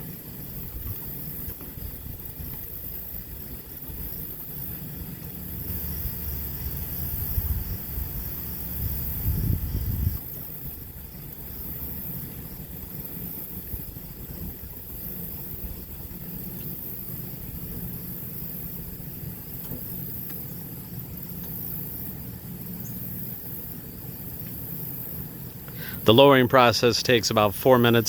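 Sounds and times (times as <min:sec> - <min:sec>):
insects chirping: 0:00.0 - 0:28.0
low mechanical hum: 0:00.0 - 0:28.0.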